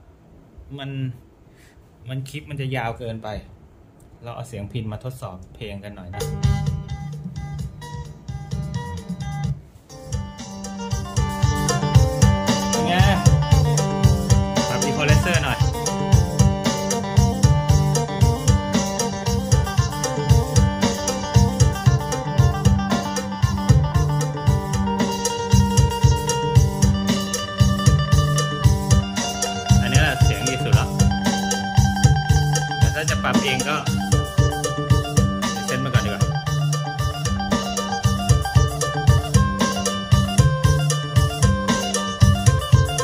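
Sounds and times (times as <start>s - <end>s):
steady drum beat: 6.2s - 43.0s.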